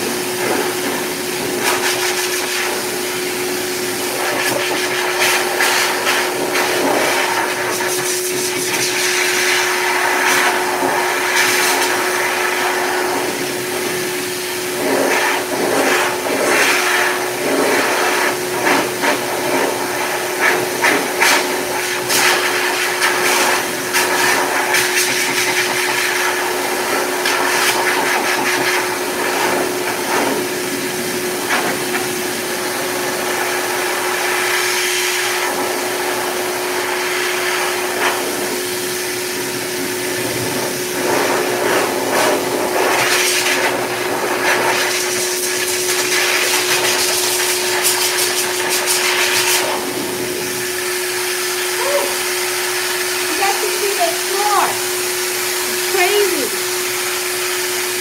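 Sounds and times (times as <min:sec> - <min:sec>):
dog grooming dryer blowing: 0:00.0 - 0:58.0.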